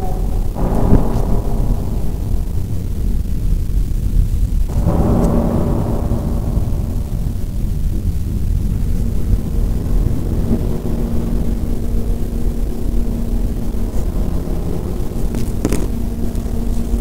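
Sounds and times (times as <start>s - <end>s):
constant hum: 0.0s - 17.0s
low rumbling noise: 0.0s - 17.0s
sharp crackles: 0.0s - 17.0s.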